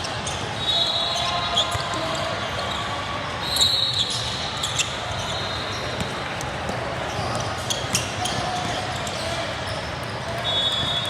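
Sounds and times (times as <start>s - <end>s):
murmur of players and spectators: 0.0s - 11.0s.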